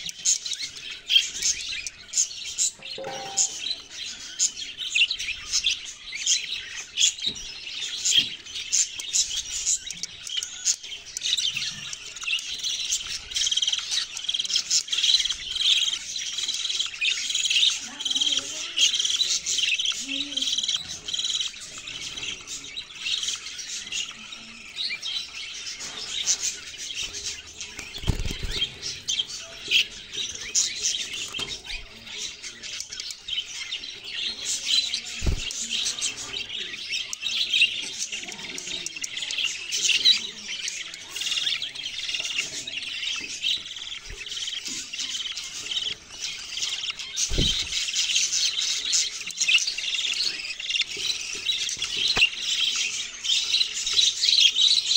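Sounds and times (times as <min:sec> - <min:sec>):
budgerigars chirping: 0:00.0 - 0:54.9.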